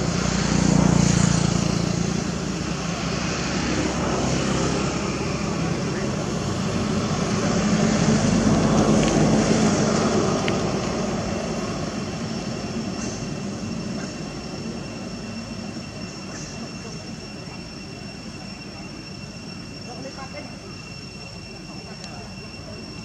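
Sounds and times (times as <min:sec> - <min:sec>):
passing engine rumble: 0:00.0 - 0:23.0.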